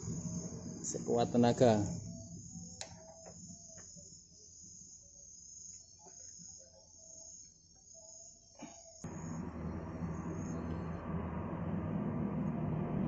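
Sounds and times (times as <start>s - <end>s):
insects chirring: 0.0s - 10.9s.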